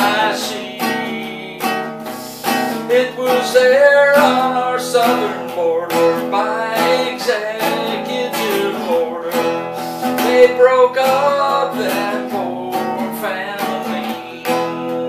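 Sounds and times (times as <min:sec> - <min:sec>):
acoustic guitar strumming: 0:00.0 - 0:15.0
man singing: 0:00.0 - 0:15.0.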